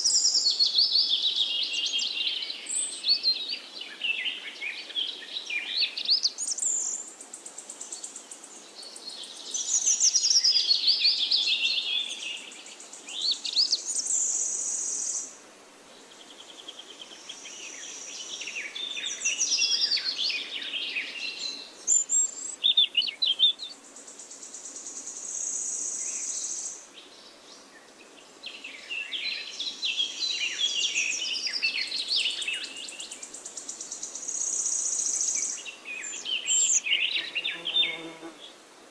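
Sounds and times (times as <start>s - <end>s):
songbirds chirping and warbling: 0.0s - 38.7s.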